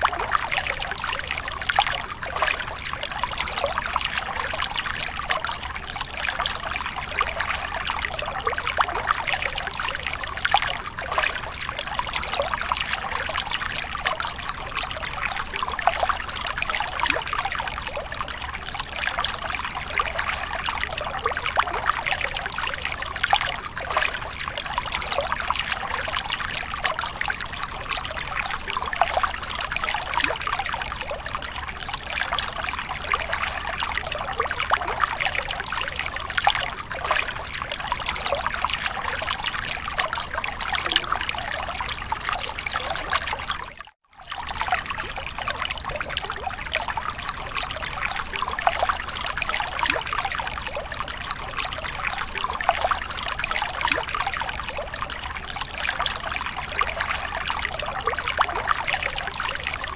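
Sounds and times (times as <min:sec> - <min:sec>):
water trickling into a pool: 0:00.0 - 0:59.9.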